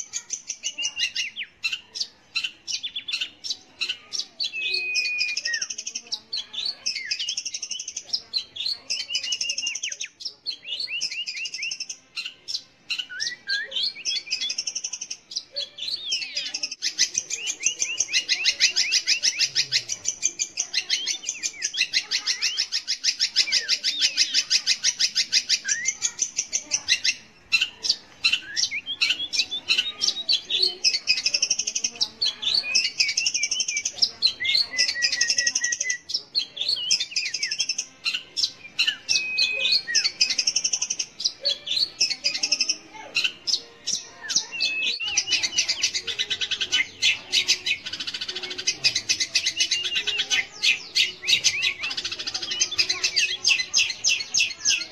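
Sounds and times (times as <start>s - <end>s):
shrike singing: 0.0s - 54.9s.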